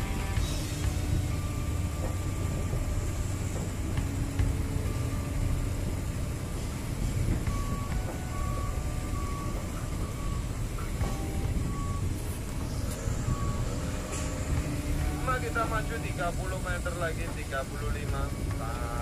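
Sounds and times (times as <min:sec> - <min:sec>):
ship low rumble: 0:00.0 - 0:19.0.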